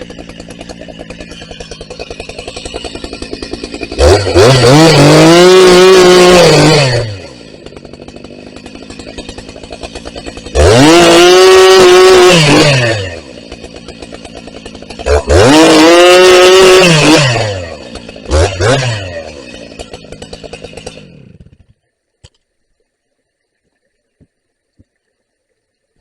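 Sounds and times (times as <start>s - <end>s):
chainsaw revving and idling: 0.0s - 21.8s.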